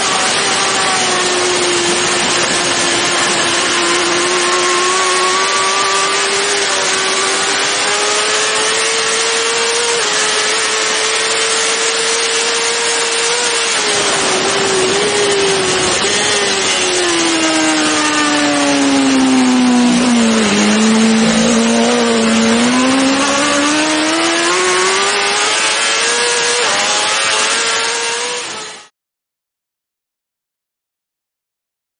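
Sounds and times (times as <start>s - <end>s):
motorcycle engine at high revs: 0.0s - 28.9s.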